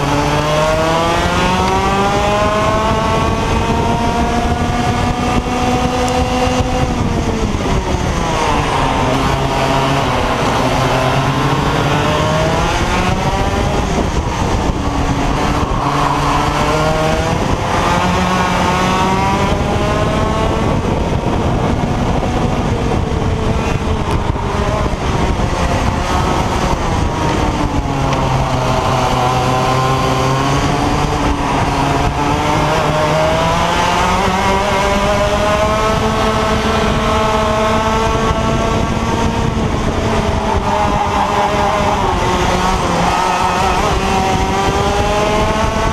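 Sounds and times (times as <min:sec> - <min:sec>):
kart engine revving: 0:00.0 - 0:45.9.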